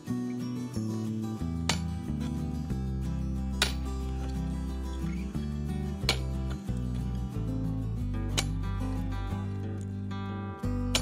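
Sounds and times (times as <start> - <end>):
background music with bass chords: 0.0 - 11.0.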